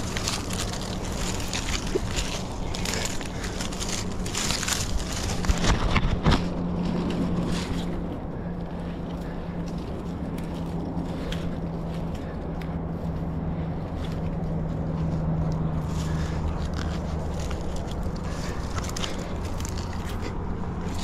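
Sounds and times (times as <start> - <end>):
scraping on tree bark: 0.0 - 21.0
steady low hum: 0.0 - 21.0
twigs and leaves brushing: 0.0 - 21.0.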